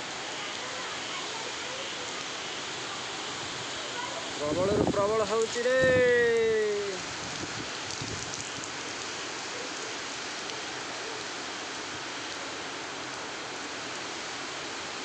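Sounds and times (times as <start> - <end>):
heavy rain: 0.0 - 15.0
wind in trees: 0.0 - 15.0.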